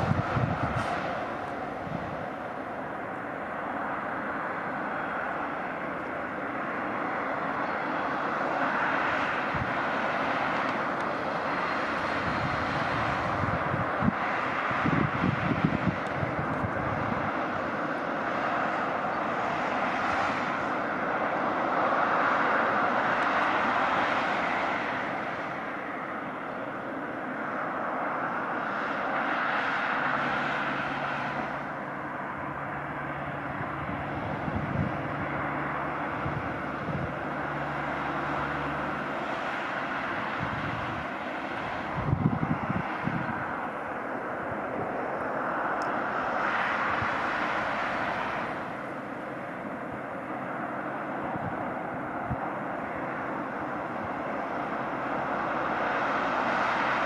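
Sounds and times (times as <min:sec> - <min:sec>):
low engine hum: 0:00.0 - 0:57.0
passing cars and trucks: 0:00.0 - 0:57.0.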